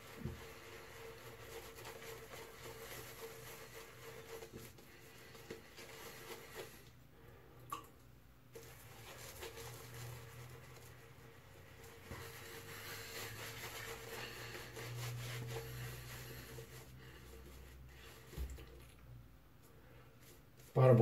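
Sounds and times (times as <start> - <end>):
shaving brush squishing lather: 0.0 - 7.0, 8.5 - 19.1.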